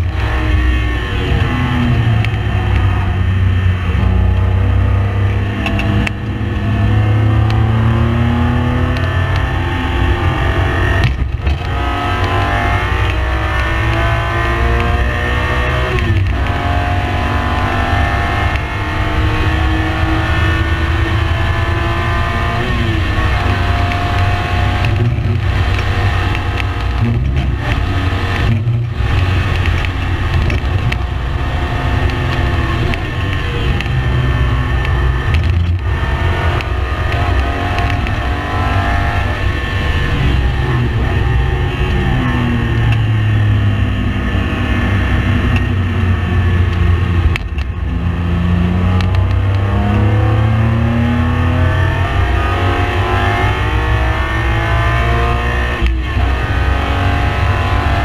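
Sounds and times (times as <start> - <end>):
heavy low rumble: 0.0 - 52.7
race car engine revving: 0.0 - 58.0.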